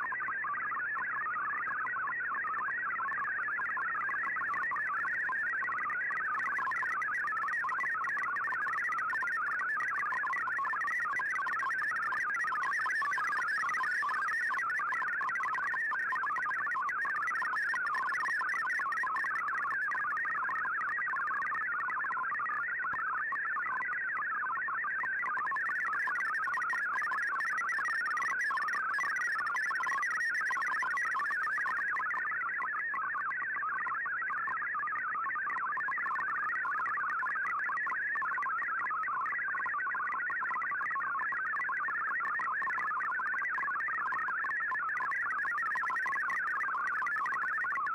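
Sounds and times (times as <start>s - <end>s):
warbling data signal tones: 3.2s - 23.9s, 25.1s - 34.6s, 39.5s - 47.9s.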